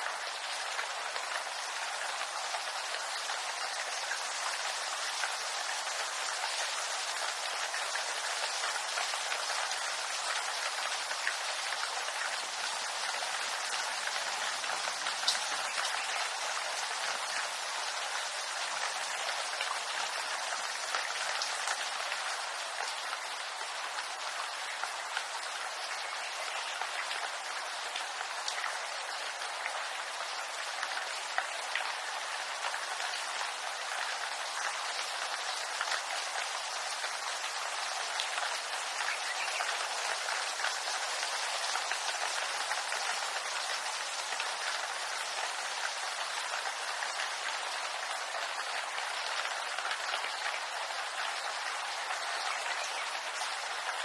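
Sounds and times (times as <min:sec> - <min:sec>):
rain on bamboo leaves: 0:00.0 - 0:54.0.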